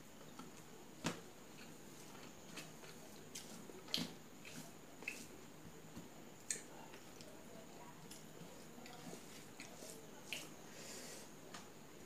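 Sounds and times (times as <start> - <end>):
fingers mixing food on steel plate: 0.4 - 10.6.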